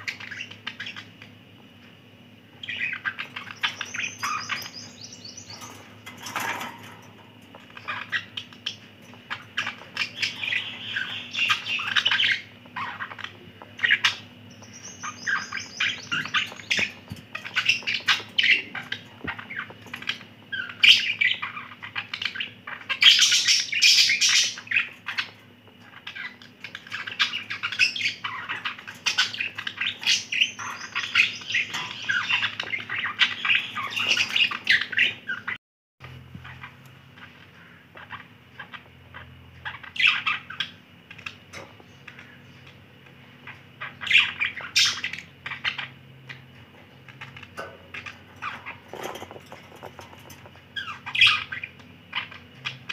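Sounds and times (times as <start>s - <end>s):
budgerigars chattering and warbling: 0.0s - 1.4s, 2.5s - 35.6s, 36.4s - 52.9s.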